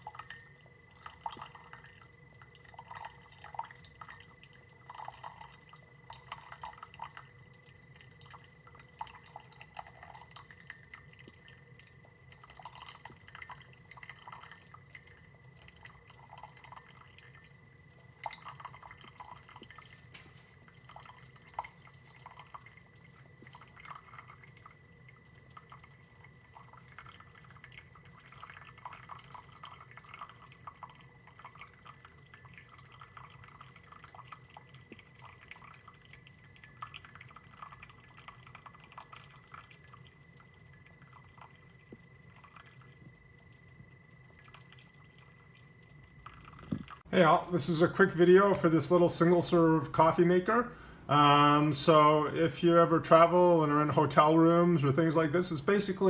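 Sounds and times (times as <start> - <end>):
coffee dripping into cup: 0.0 - 56.0
coffee maker humming: 0.0 - 56.0.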